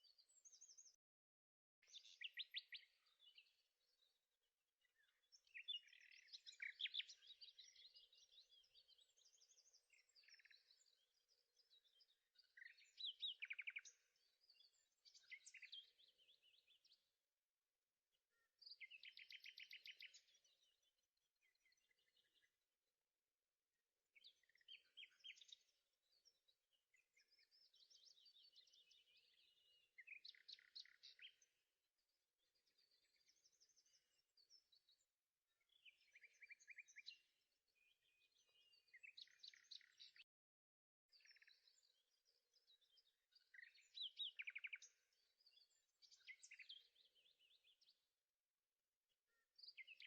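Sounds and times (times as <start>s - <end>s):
faint birdsong chirping and trilling: 0.0s - 50.0s.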